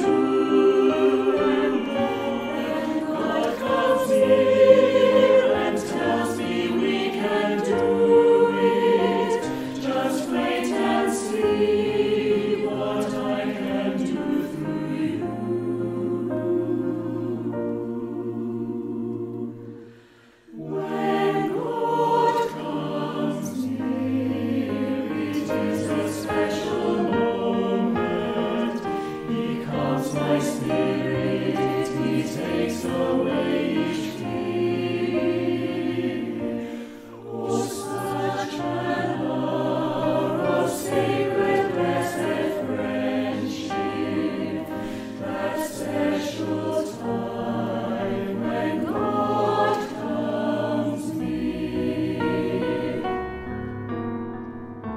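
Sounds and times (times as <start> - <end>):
piano accompaniment: 0.0 - 20.0, 20.6 - 54.9
mixed choir singing: 0.0 - 53.8.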